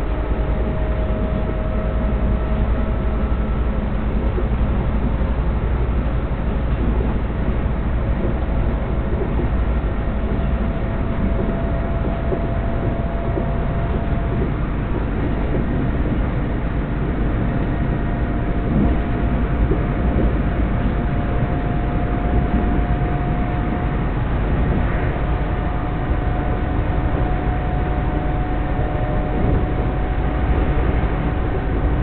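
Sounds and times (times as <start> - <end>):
faint rising whine: 0.0 - 32.0
train wheels rumbling on track: 0.0 - 32.0.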